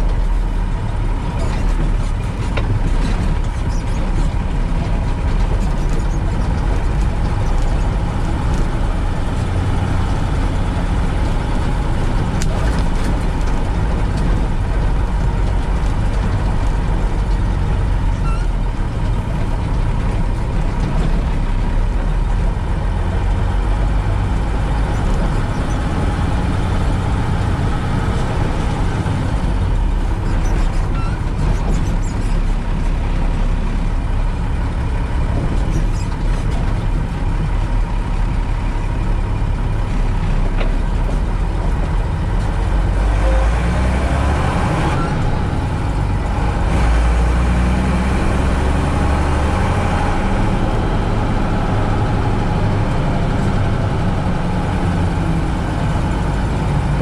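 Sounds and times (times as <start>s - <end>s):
diesel truck engine rumble: 0.0s - 57.0s.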